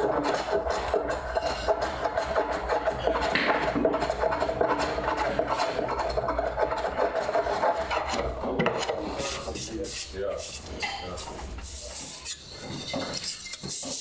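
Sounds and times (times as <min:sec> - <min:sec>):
hand tool rasping wood: 0:00.0 - 0:14.0.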